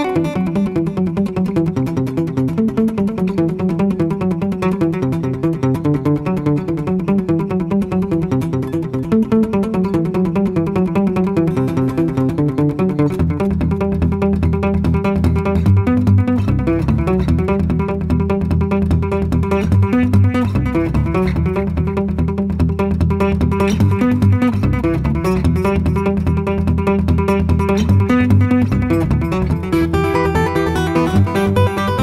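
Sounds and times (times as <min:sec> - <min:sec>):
fingerstyle acoustic guitar: 0:00.0 - 0:32.0.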